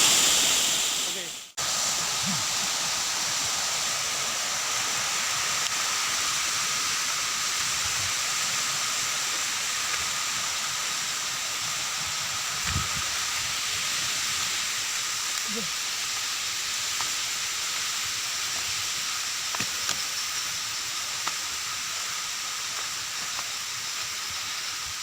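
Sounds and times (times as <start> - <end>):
rushing falling water: 0.0 - 25.0.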